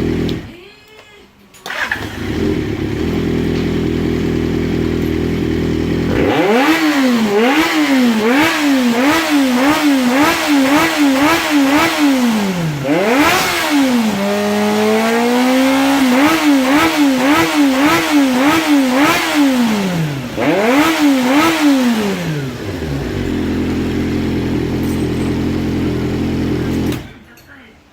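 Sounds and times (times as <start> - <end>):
motorcycle engine revving: 0.0 - 0.6, 1.7 - 27.4.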